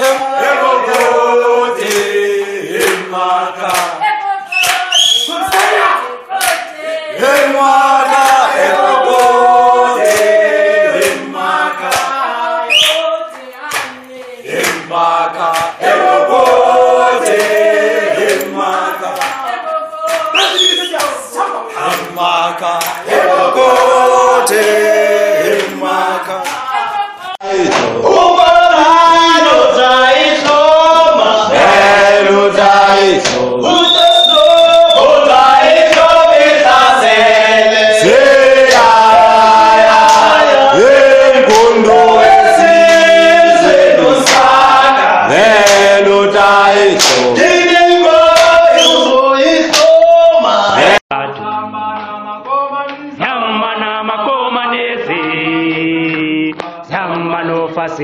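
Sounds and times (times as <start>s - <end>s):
group of people singing and chanting: 0.0s - 58.0s.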